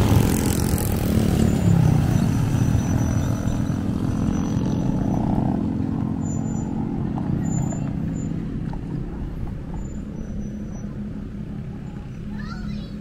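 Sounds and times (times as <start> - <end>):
small motorcycle passing: 0.0 - 13.0.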